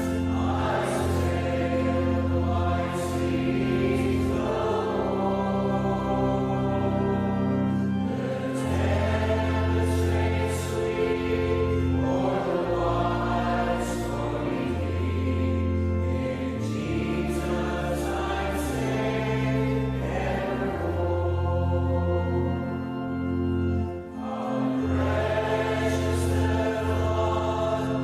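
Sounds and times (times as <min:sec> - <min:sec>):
choir singing gospel song: 0:00.0 - 0:28.0
sustained low chords: 0:00.0 - 0:28.0.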